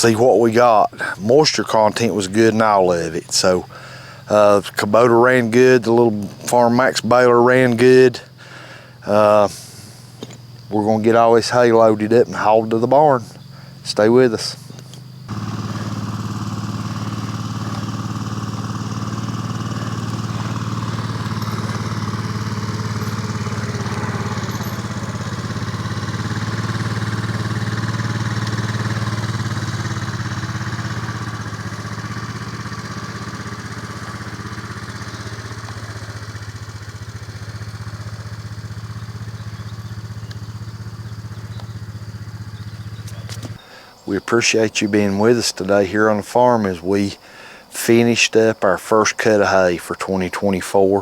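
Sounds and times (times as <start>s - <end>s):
vehicle engine running steadily: 0.0s - 44.0s.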